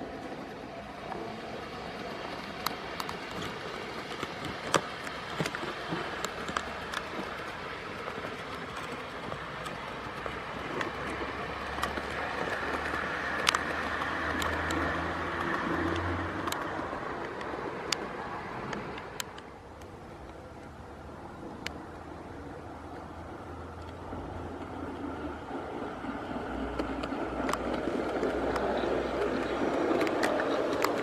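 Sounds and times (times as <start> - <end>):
model train wheels clicking: 0.0 - 31.0.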